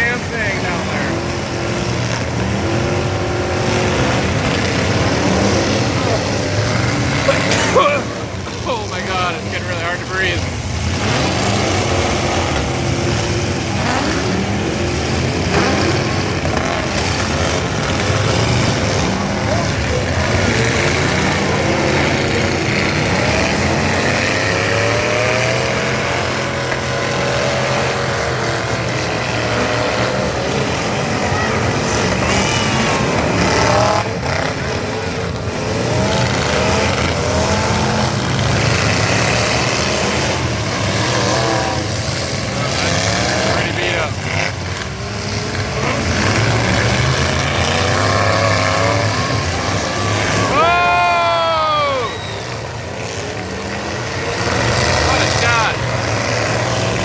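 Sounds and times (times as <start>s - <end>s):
pickup truck engines revving: 0.0s - 57.0s.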